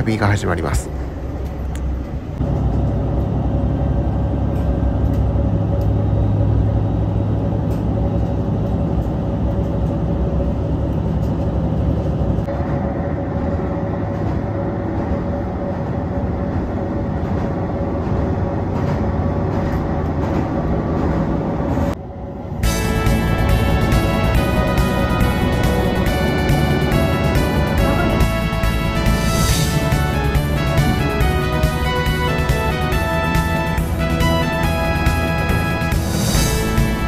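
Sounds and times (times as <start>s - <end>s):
train engine running noise: 0.0s - 37.0s.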